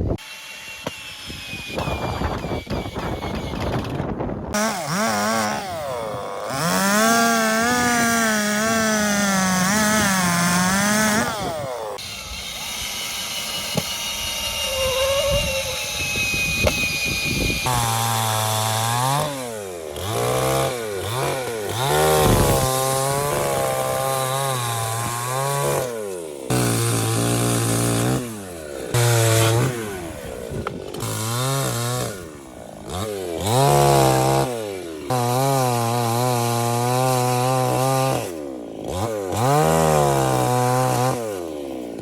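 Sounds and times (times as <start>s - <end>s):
chainsaw cutting wood: 0.0s - 42.0s.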